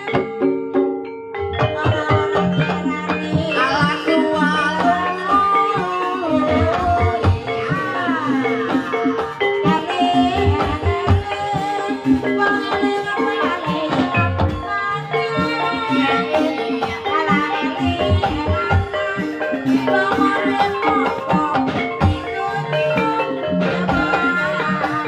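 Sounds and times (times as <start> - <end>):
metallophones and drums: 0.0 - 25.0
wavering melody line: 0.0 - 25.0.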